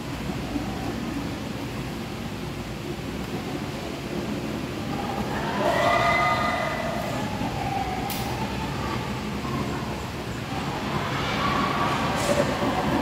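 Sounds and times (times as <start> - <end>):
faint distant voices: 0.0 - 13.0
room hum: 0.0 - 13.0.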